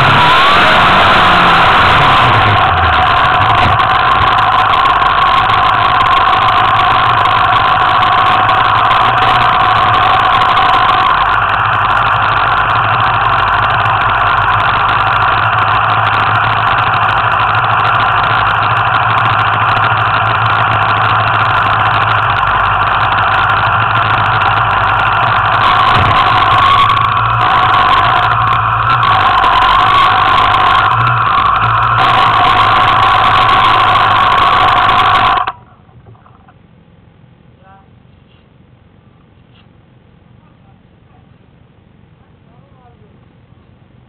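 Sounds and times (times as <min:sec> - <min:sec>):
scooter engine idling: 0:00.0 - 0:36.6.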